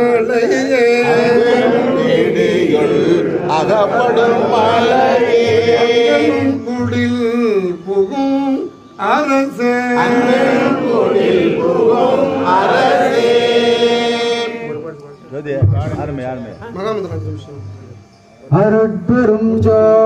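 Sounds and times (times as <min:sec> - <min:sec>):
men chanting a hymn: 0:00.0 - 0:17.6, 0:18.3 - 0:20.0.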